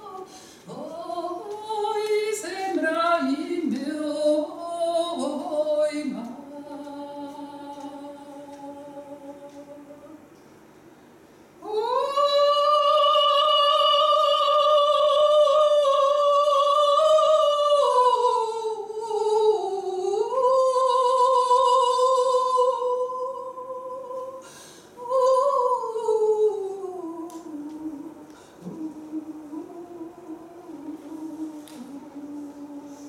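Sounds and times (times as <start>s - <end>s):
woman singing unaccompanied: 0.0s - 10.3s, 11.6s - 33.0s.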